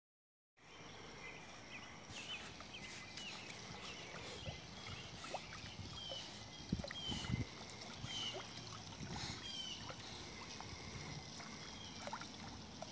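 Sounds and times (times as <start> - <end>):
water lapping and splashing: 2.0 - 12.9.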